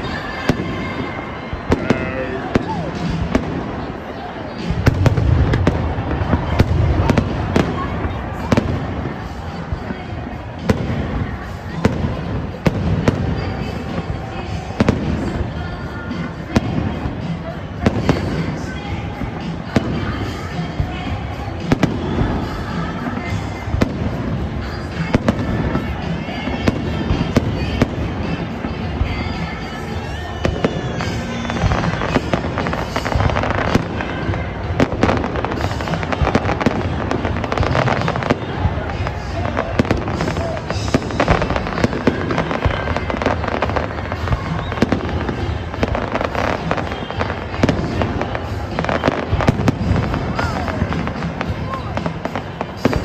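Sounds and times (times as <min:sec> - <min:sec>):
background music: 0:00.0 - 0:53.0
fireworks bangs: 0:00.0 - 0:53.0
fireworks rumble: 0:00.0 - 0:53.0.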